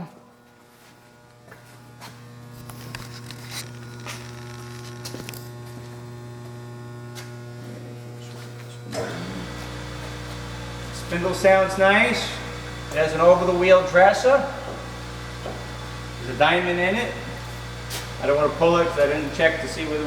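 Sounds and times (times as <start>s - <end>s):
electric motor humming: 0.0s - 20.0s.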